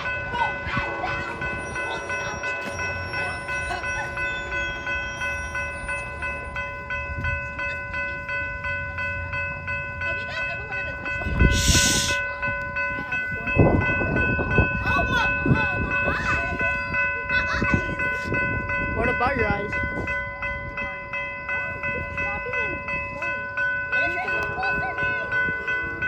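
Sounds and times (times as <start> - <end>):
pulsing high ringing tones: 0.0 - 26.0
train rumble: 0.0 - 26.0.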